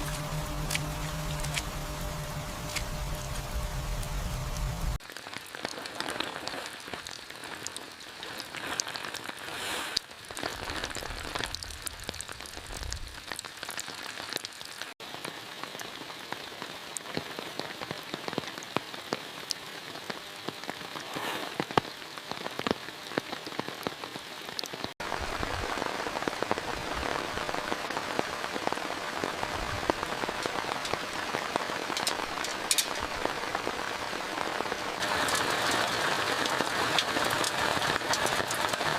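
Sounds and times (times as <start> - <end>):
raindrops ticking: 0.0 - 21.0, 21.6 - 38.9
steady rain falling: 0.0 - 38.9.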